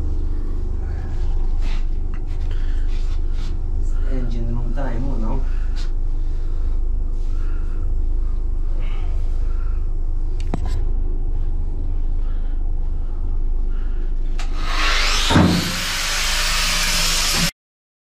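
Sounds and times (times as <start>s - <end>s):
low engine room rumble: 0.0s - 15.3s
angle grinder whine: 0.0s - 17.5s.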